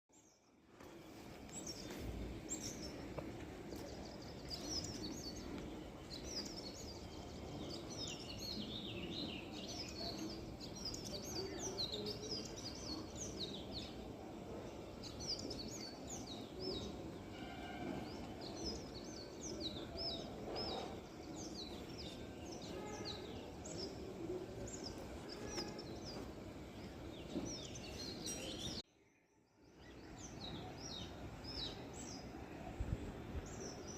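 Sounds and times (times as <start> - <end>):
low background noise: 0.1 - 33.9
songbirds chirping: 0.1 - 33.9.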